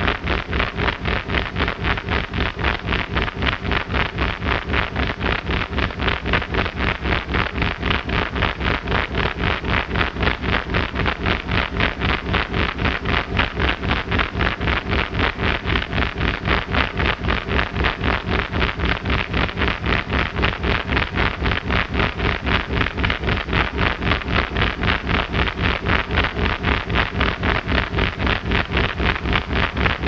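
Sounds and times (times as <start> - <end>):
pulsing buzzing electronic noise: 0.0 - 30.0
steady low hum: 0.0 - 30.0.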